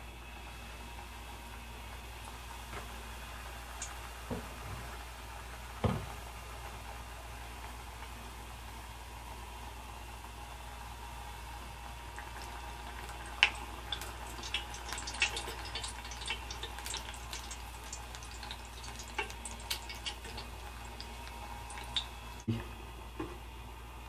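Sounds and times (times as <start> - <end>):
dough deep-frying in oil: 0.0 - 24.0.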